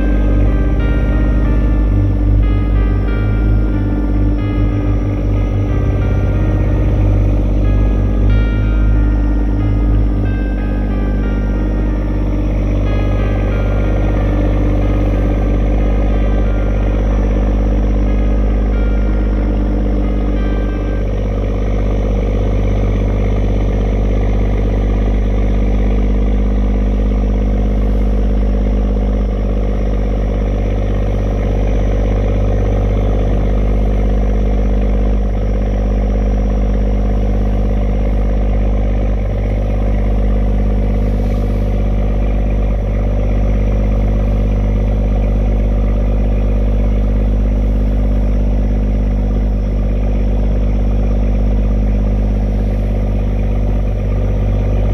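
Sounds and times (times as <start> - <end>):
boat engine droning: 0.0 - 54.9.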